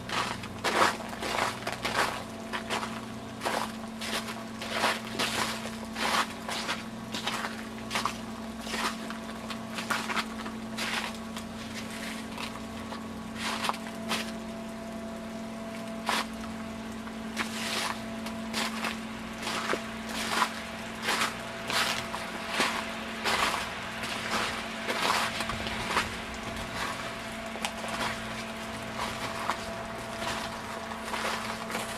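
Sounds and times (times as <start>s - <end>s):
footsteps crunching on snow: 0.0s - 14.5s, 16.0s - 16.5s, 17.3s - 31.9s
low hum: 0.0s - 31.9s.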